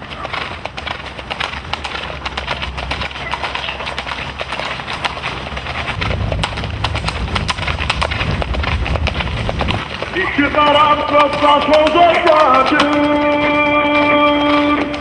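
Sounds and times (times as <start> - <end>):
low rumble: 0.0 - 12.5
horses hooves clip-clopping on road: 0.0 - 15.0.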